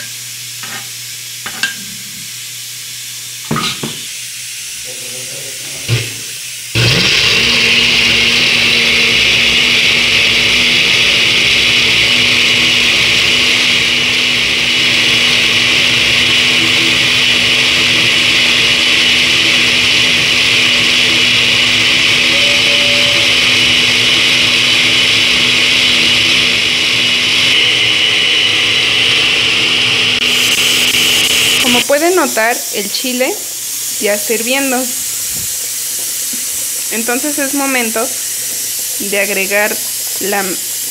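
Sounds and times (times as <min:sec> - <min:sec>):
blender motor whine: 0:00.0 - 0:40.9.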